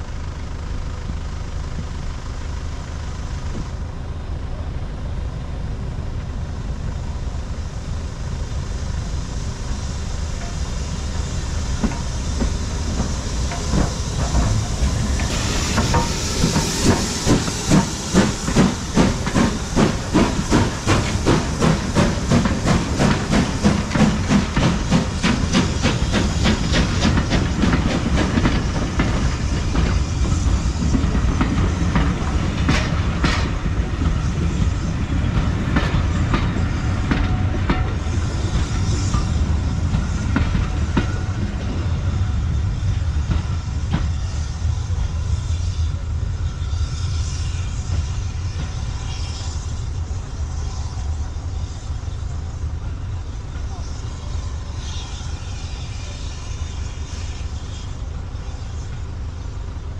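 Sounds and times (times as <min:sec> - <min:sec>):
locomotive rhythmic clatter: 0:00.0 - 0:59.9
loud steam hiss: 0:00.0 - 0:59.9
train wheels clicking over rail joints: 0:08.9 - 0:59.9.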